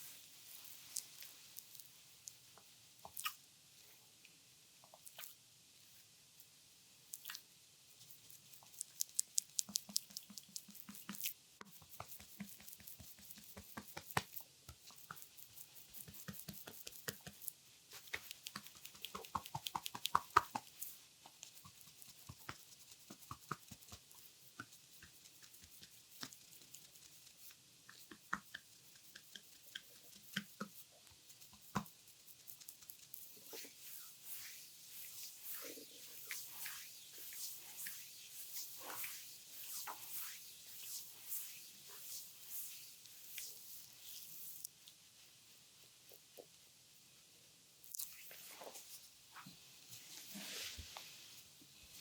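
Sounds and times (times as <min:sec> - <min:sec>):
wet squelches of oily skin massage: 0:07.1 - 0:47.1, 0:47.9 - 0:52.0.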